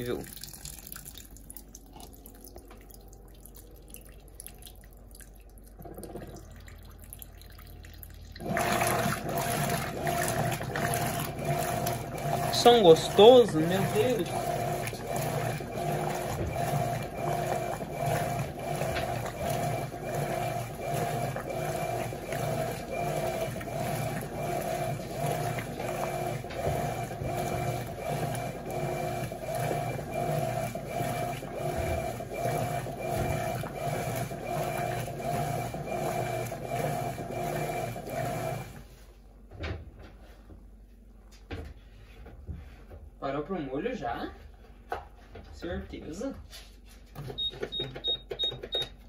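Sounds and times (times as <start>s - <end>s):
washing machine agitating: 0.0s - 40.3s, 47.1s - 49.0s.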